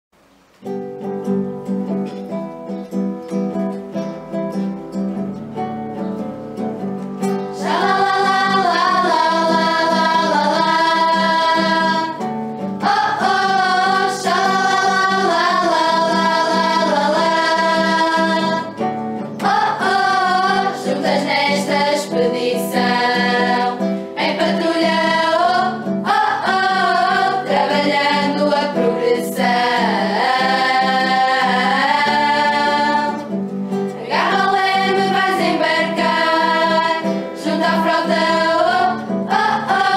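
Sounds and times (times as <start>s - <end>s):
acoustic guitar: 0.2s - 39.9s
women singing a hymn together: 7.5s - 39.9s.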